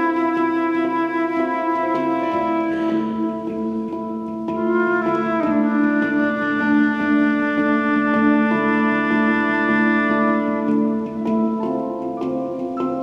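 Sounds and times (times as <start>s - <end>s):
flute: 0.0s - 13.0s
handpan: 0.0s - 13.0s.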